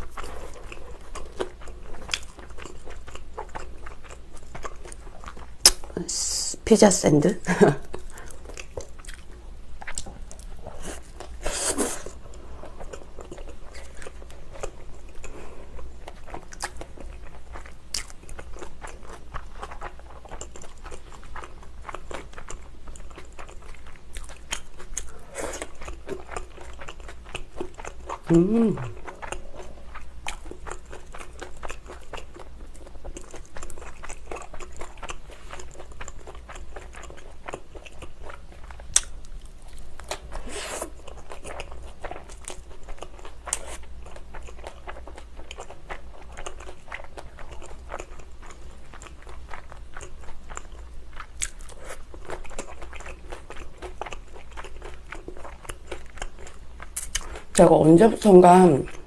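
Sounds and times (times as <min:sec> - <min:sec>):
chewing pizza crunches: 0:00.0 - 0:05.9, 0:07.9 - 0:57.6.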